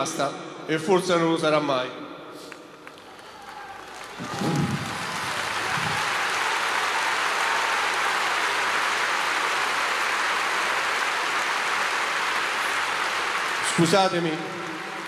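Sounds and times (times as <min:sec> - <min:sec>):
stadium crowd applauding: 0:02.5 - 0:15.0.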